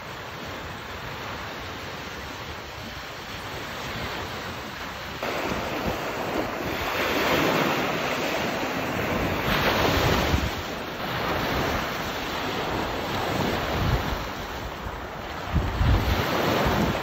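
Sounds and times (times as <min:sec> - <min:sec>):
waves breaking on sand: 0:00.0 - 0:17.0
wind buffeting microphone: 0:02.1 - 0:17.0.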